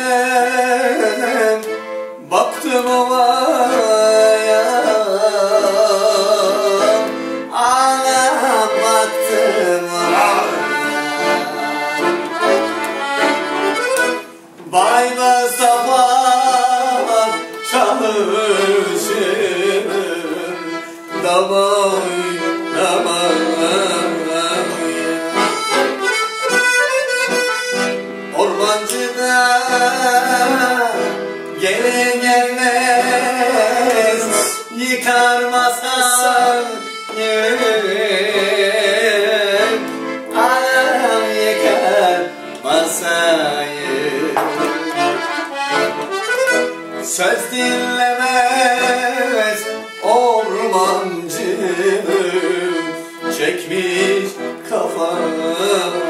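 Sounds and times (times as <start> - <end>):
accordion folk melody: 0.0 - 56.0.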